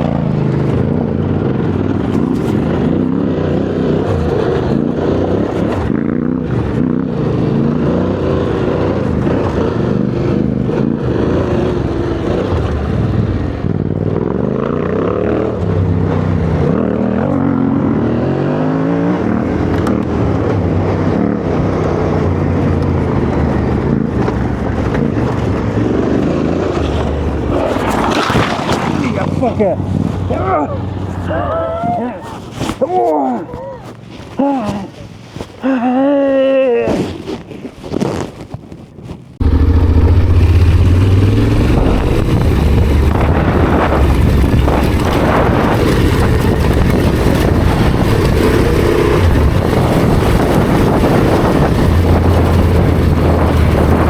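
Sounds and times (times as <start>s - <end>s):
motorcycle engine revving: 0.0s - 31.3s, 39.4s - 54.0s.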